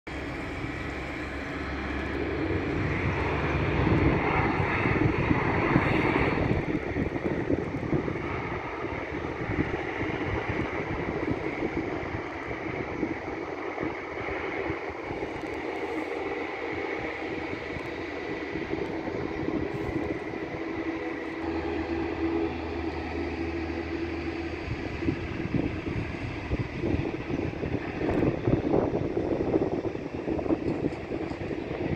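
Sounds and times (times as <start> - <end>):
deep drone: 0.1 - 31.9
turboprop engine and propeller noise: 0.1 - 31.9.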